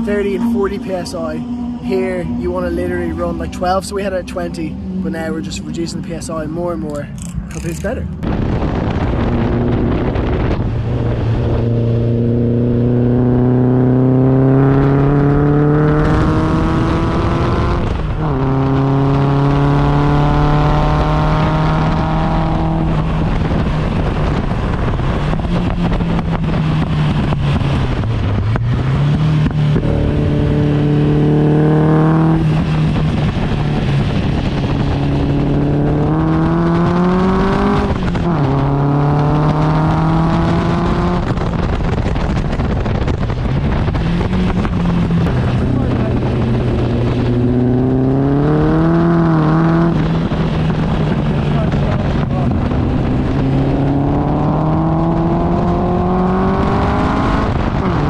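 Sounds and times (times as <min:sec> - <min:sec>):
wind and road noise: 0:00.0 - 0:58.0
car engine revving hard: 0:08.4 - 0:58.0.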